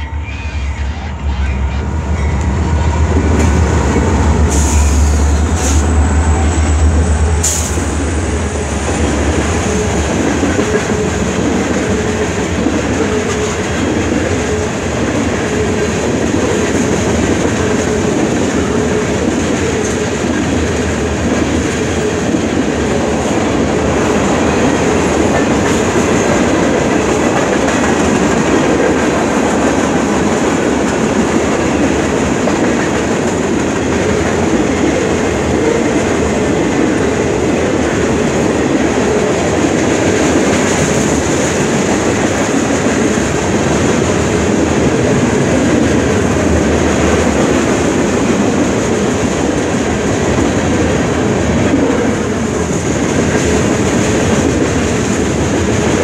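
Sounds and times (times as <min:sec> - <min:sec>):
diesel locomotive engine drone: 0:00.0 - 0:56.0
steel wheels rumbling on rail: 0:00.0 - 0:56.0.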